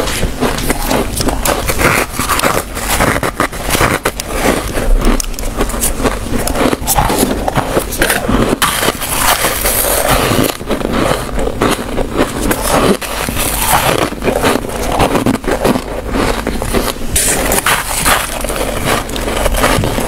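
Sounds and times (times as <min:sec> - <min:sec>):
chewing crunchy frost: 0:00.0 - 0:20.0.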